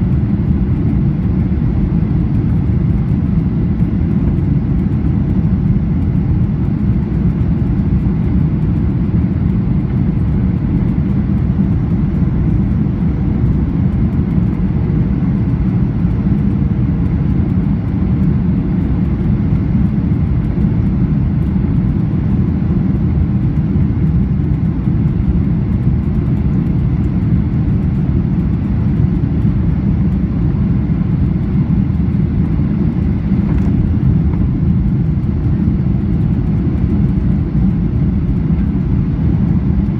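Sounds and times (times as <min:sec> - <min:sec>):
jet engines low roar: 0:00.0 - 0:39.9.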